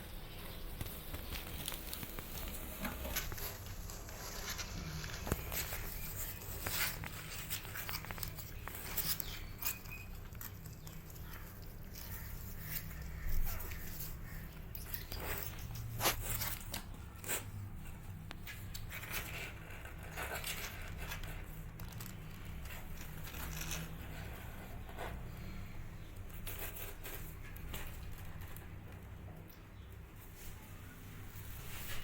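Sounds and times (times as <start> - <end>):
kittens moving about: 0.1 - 32.0.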